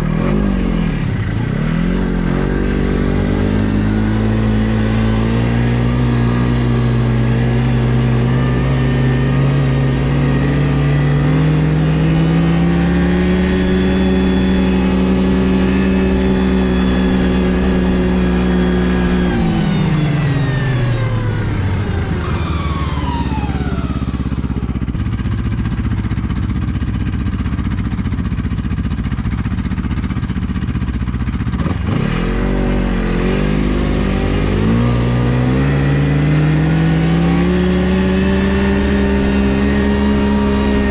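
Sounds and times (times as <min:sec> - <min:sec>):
snowmobile engine revving: 0:00.0 - 0:26.2, 0:31.5 - 0:40.9.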